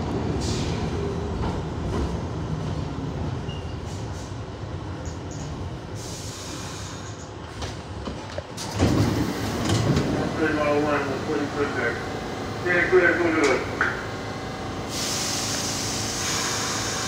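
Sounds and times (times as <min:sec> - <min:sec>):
subway car rumbling on rails: 0:00.0 - 0:17.0.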